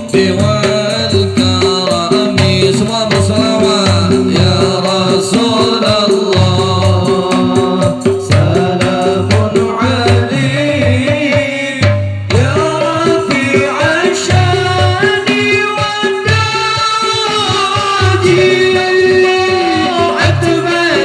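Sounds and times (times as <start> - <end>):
group of men singing: 0.0 - 21.0
hand drums: 0.0 - 21.0
man leading devotional singing: 0.0 - 21.0.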